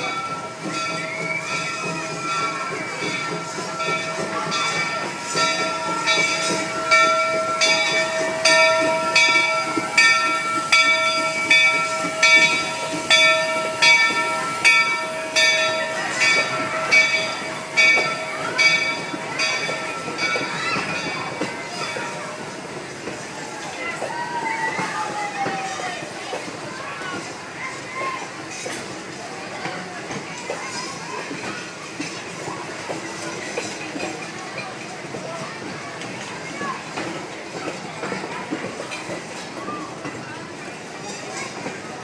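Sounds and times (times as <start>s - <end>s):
locomotive bell ringing: 0.0s - 42.0s.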